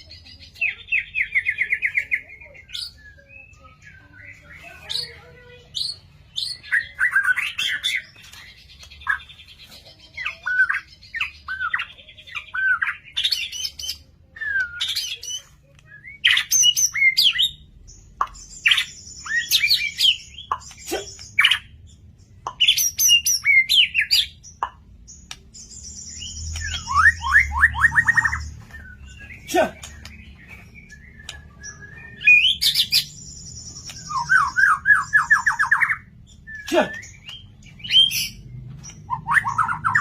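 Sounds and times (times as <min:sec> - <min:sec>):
songbird singing varied song: 0:00.0 - 0:40.0.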